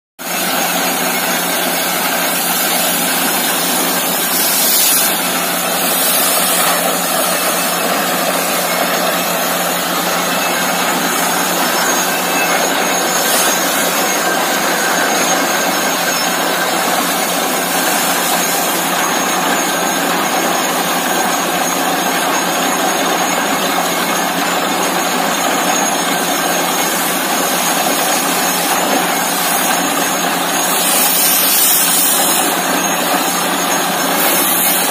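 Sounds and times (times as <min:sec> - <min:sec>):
air blowing water from bore: 0:00.2 - 0:34.9
drilling rig and compressor: 0:00.2 - 0:34.9.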